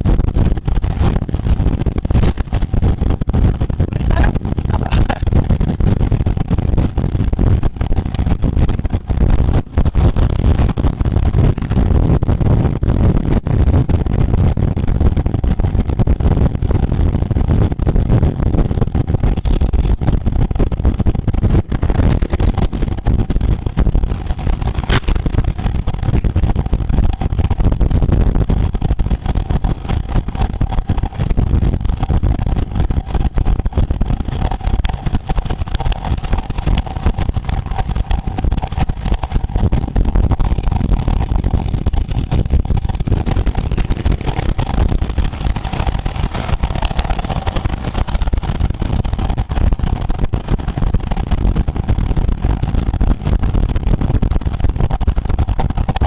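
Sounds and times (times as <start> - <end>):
bicycle road noise: 0.0 - 56.0
faint steady whine: 0.0 - 56.0
wind buffeting microphone: 0.0 - 56.0.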